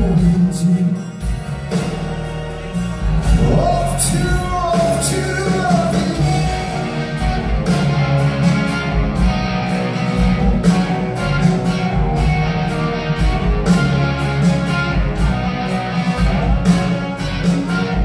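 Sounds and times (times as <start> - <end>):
electric guitar: 0.0 - 18.0
live rock band playing: 0.0 - 18.0.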